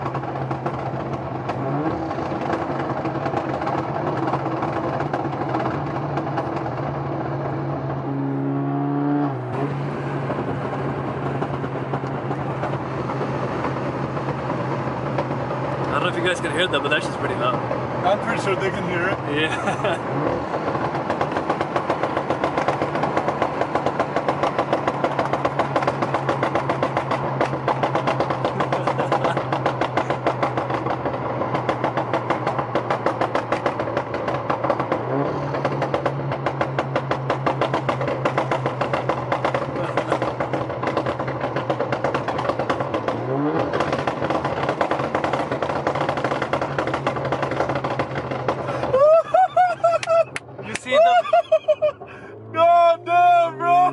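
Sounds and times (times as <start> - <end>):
exhaust crackling pops: 0.0 - 8.4, 10.2 - 19.3, 19.9 - 49.0.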